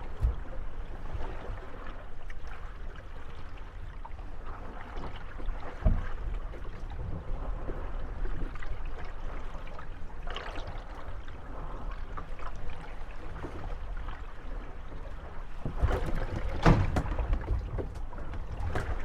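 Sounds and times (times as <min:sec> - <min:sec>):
boats knocking and creaking: 0:00.0 - 0:19.0
water lapping against boats: 0:00.0 - 0:19.0.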